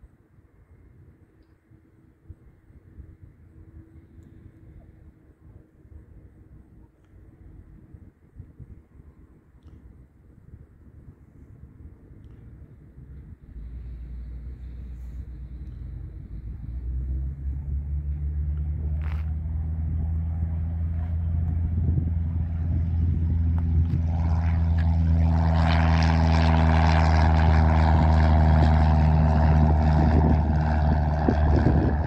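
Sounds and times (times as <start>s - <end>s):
light plane engine and propeller: 0.0s - 32.0s.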